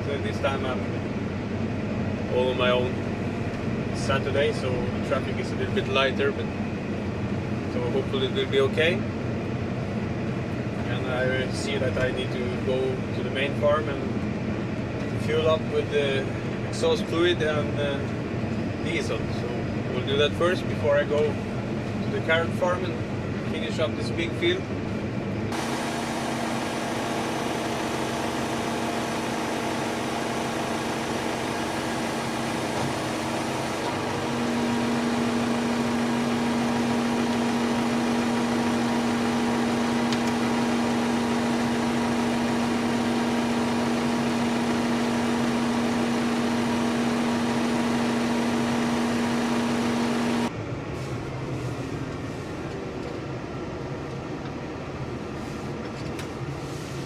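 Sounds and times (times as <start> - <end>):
tractor engine droning: 0.0 - 55.1.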